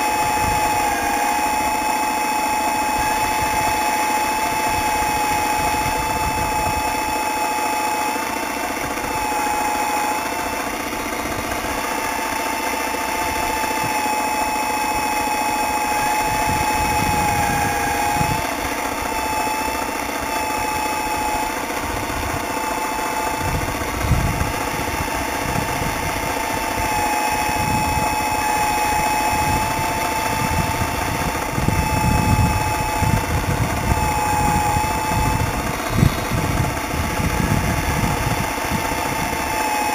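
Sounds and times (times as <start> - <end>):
electric hydraulic pump whining: 0.0 - 39.9.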